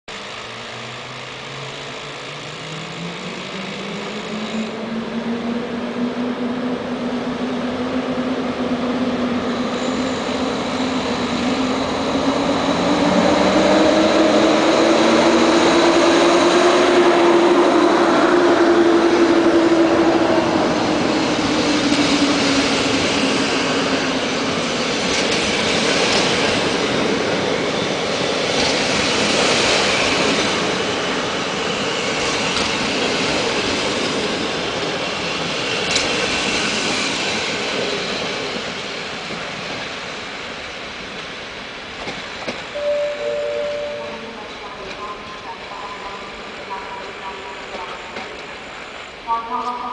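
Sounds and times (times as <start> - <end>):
electric locomotive motors whining: 0.1 - 40.4, 41.0 - 49.9
train coaches rumbling past: 0.1 - 49.9.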